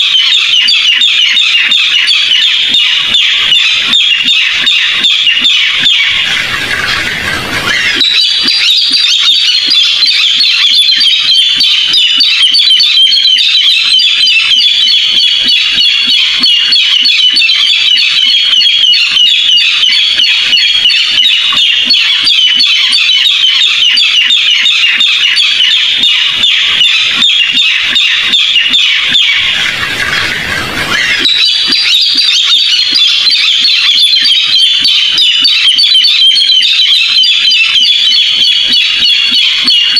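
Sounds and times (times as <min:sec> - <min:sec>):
bird calling with harsh notes: 0:00.0 - 0:39.9.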